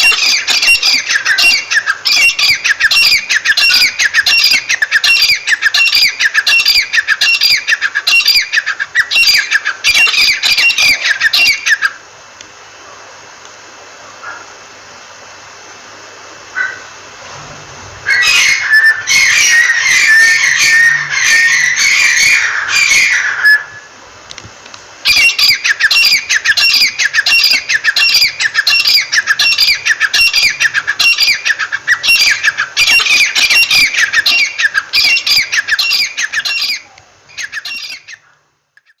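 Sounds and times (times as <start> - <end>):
francolin calling: 0.0 - 12.1, 16.5 - 17.1, 18.0 - 24.0, 25.0 - 39.0.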